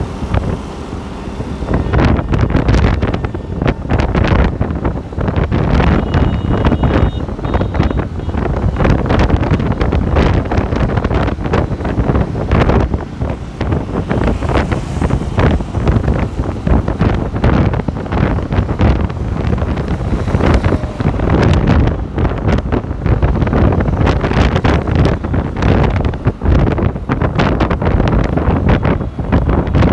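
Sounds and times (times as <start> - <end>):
road and traffic noise: 0.0 - 29.9
wind buffeting microphone: 0.0 - 29.9.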